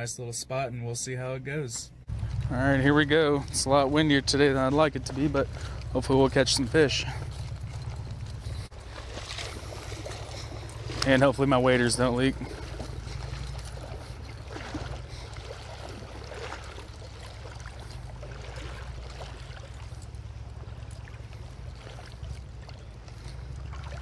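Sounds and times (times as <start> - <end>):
stream water rippling: 2.0 - 24.0
wind buffeting microphone: 2.0 - 24.0.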